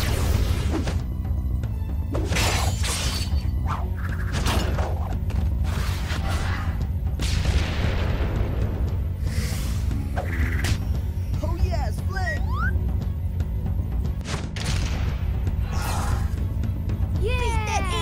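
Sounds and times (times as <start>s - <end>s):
action cartoon music: 0.0s - 18.0s.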